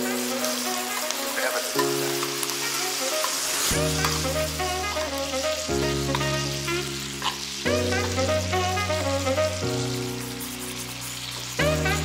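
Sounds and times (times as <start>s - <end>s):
background music with sustained chords: 0.0s - 12.0s
butter sizzling in a pan: 0.0s - 12.0s.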